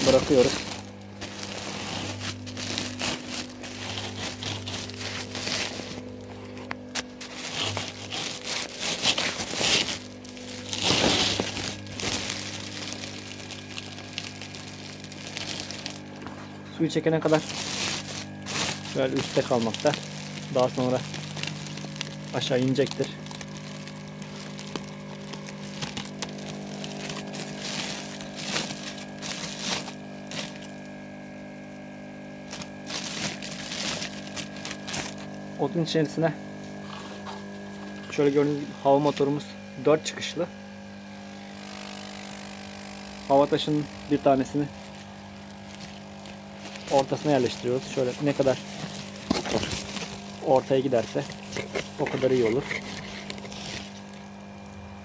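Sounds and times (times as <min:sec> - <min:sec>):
plastic sack rustling: 0:00.0 - 0:35.7, 0:36.4 - 0:39.4, 0:40.9 - 0:55.0
air pump humming: 0:00.0 - 0:55.0.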